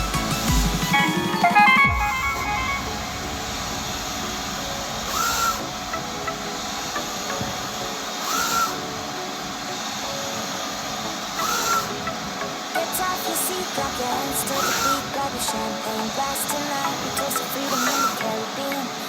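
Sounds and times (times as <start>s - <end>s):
printer steady hiss: 2.2s - 19.0s.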